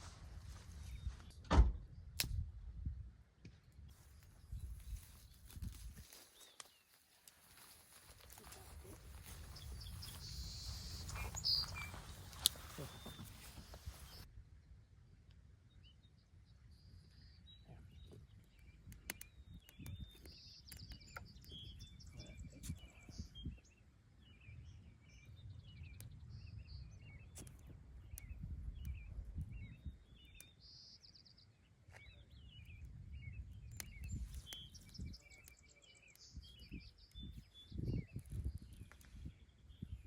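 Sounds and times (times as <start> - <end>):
small birds chirping: 3.6 - 14.3, 15.7 - 40.0.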